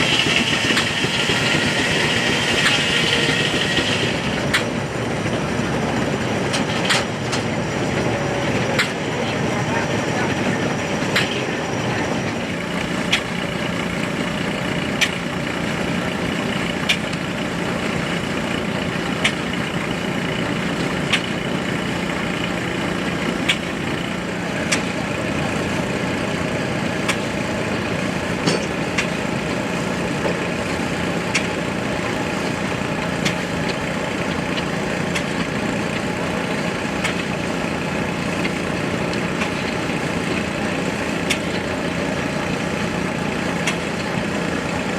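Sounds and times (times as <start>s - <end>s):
sawmill machinery humming: 0.0s - 44.9s.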